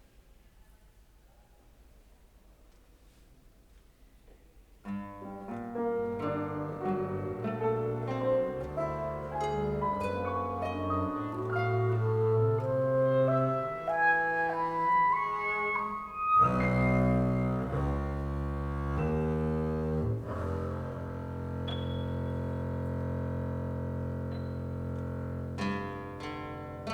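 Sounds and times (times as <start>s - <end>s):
bowed double bass notes: 4.9s - 26.9s
chamber music ensemble: 4.9s - 26.9s.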